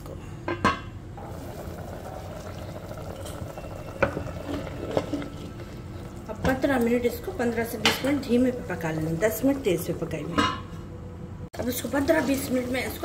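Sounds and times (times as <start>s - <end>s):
curry boiling: 1.2s - 10.8s, 11.5s - 13.0s.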